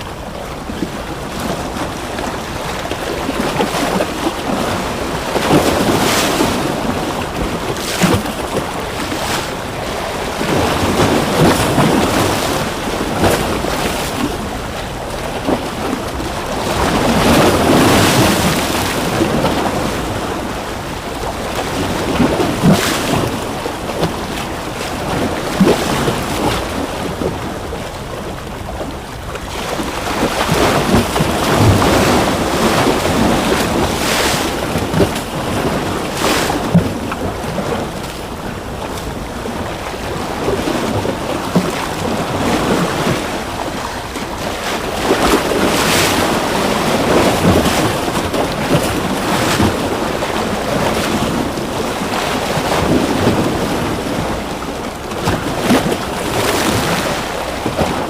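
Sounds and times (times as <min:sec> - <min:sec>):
ocean waves breaking: 0:00.0 - 0:58.0
water splashes and crackles: 0:00.0 - 0:58.0.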